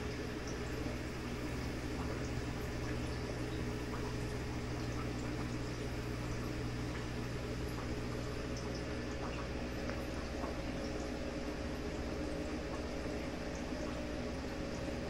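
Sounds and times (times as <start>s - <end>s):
bubbling trickling water: 0.0s - 15.0s
electric hum: 0.0s - 15.0s.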